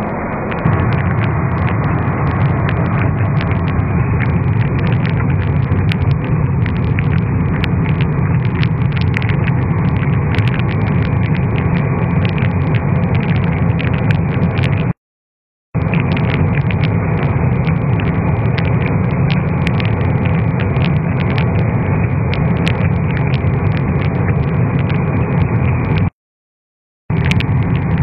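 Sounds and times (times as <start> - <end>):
heavy machine rumble: 0.0 - 14.9, 15.8 - 26.1.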